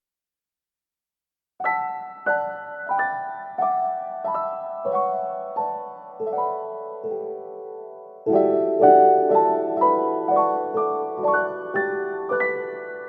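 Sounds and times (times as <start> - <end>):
slow piano music: 1.6 - 13.0.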